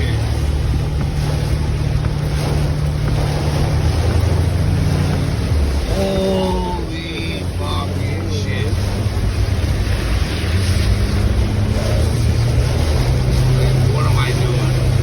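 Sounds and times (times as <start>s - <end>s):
wind on microphone: 0.0s - 13.9s
deep steady rumble: 0.0s - 15.0s.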